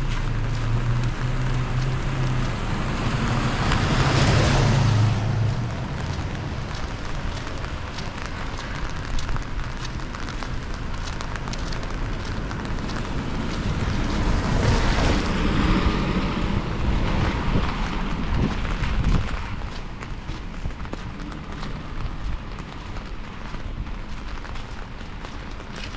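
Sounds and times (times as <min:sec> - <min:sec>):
rain falling: 0:00.0 - 0:25.9
wind buffeting microphone: 0:01.0 - 0:25.9.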